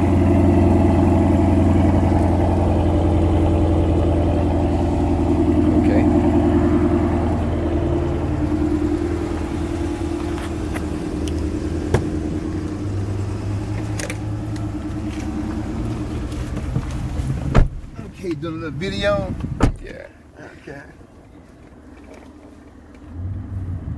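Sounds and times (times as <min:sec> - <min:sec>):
car engine idling: 0:00.0 - 0:23.6.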